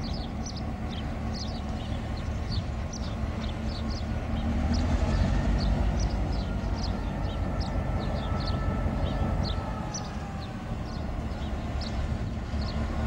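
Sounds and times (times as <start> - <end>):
birds chirping: 0.0 - 13.0
distant diesel locomotive rumble: 0.0 - 13.0.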